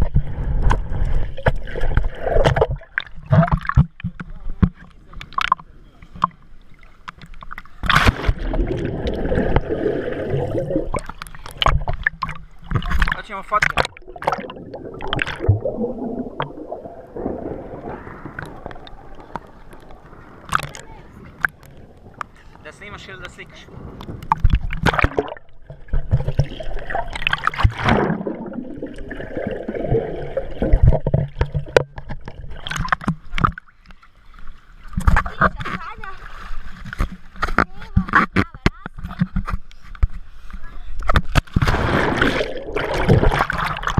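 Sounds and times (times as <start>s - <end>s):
churning gurgling water: 0.0s - 43.9s
water splashing: 0.0s - 43.9s.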